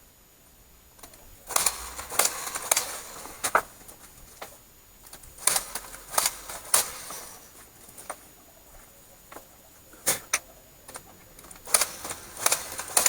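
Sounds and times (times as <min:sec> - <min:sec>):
rustling hiss: 0:00.0 - 0:13.0.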